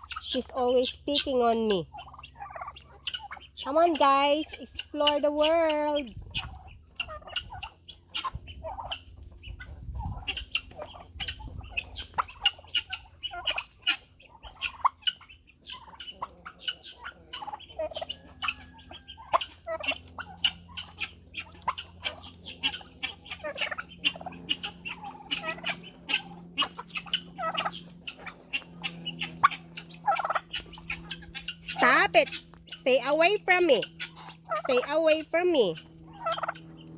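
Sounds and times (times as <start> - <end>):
turkeys clucking: 0.0 - 36.9.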